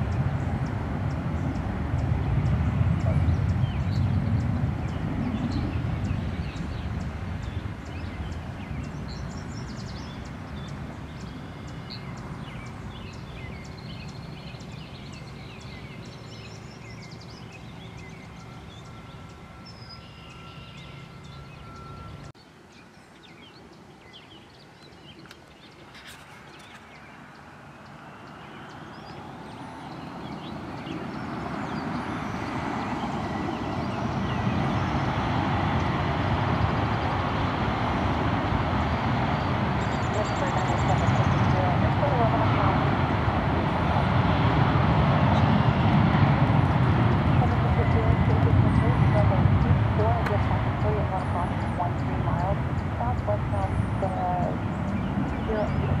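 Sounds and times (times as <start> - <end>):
jet engine rising whine: 0.0 - 22.4, 25.2 - 56.0
jet engines rumbling: 0.0 - 22.6, 24.6 - 56.0
small birds chirping: 0.0 - 56.0.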